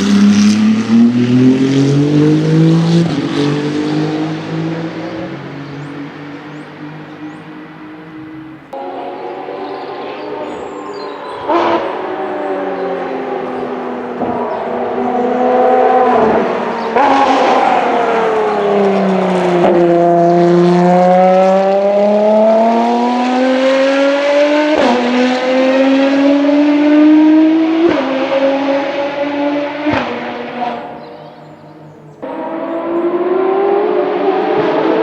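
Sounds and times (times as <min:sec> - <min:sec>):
racing car engine upshifting: 0:00.0 - 0:35.0.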